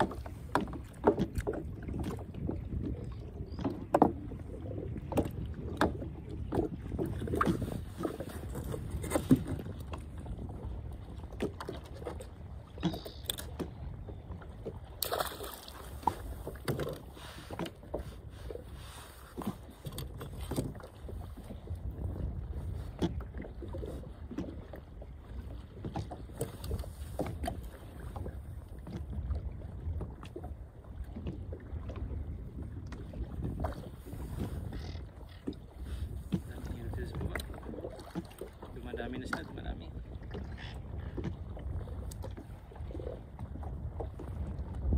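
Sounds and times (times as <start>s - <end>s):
low wind rumble: 0.0s - 44.9s
water slapping boat hull: 0.0s - 44.9s.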